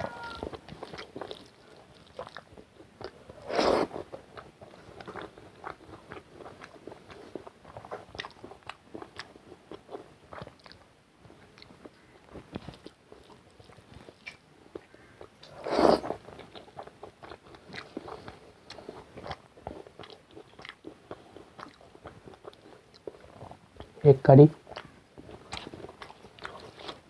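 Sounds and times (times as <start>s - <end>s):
person chewing: 0.0s - 24.0s, 24.6s - 27.0s.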